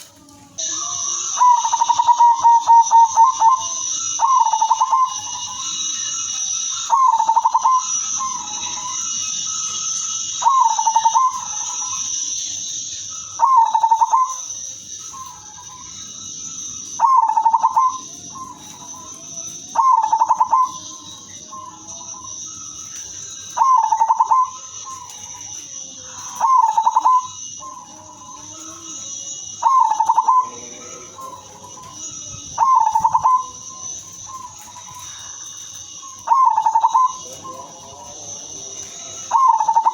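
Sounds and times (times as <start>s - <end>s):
dove cooing: 0.0s - 39.9s
high-pitched hiss: 0.0s - 39.9s.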